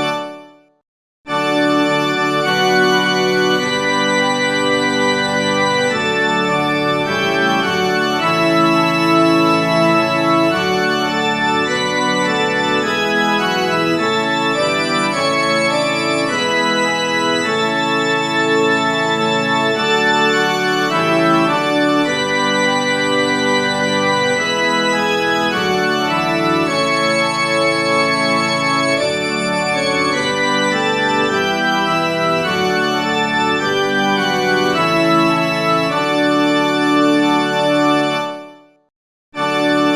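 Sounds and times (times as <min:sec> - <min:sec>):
organ playing full chords: 0:00.0 - 0:00.6, 0:01.3 - 0:38.6, 0:39.4 - 0:39.9.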